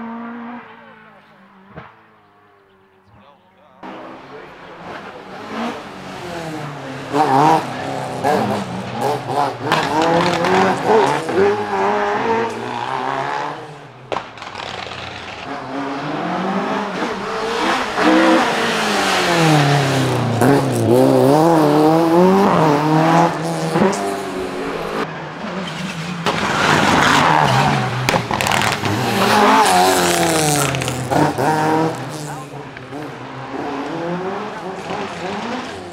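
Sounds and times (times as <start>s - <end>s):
rally cars revving past: 0.0s - 3.0s, 3.8s - 35.9s.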